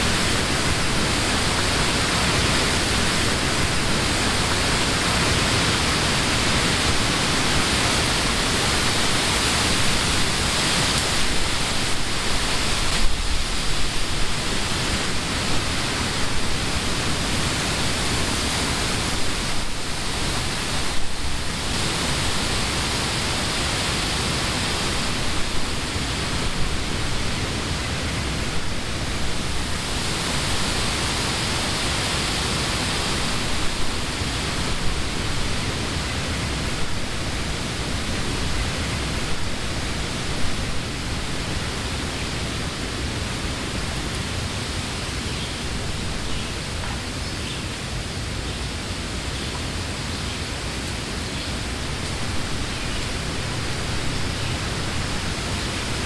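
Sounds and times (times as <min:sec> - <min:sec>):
wind rustling tree leaves: 0:00.0 - 0:56.0.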